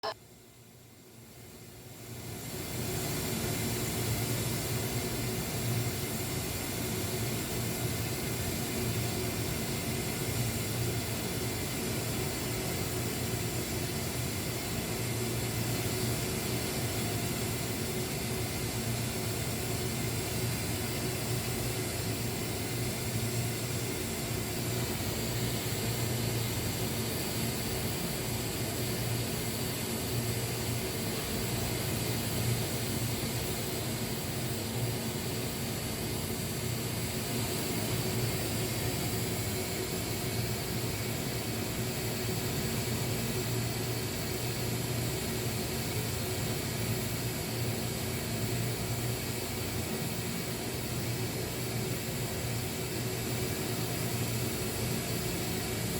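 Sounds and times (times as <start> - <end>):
arc welding hiss and buzz: 1.5 - 55.9.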